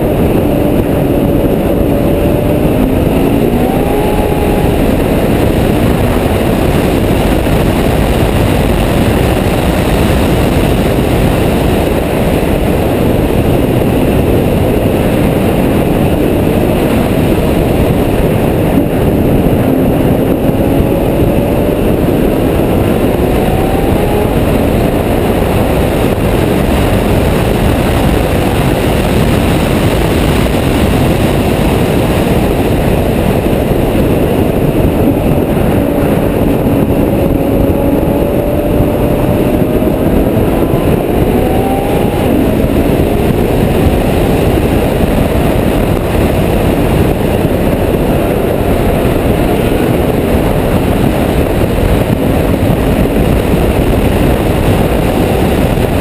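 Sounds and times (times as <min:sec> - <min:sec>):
wind and road rush: 0:00.0 - 0:56.0.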